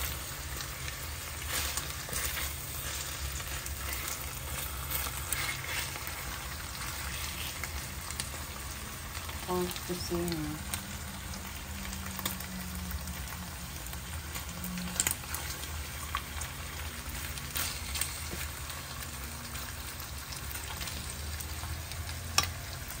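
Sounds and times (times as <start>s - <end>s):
meat sizzling in oil: 0.0s - 23.0s.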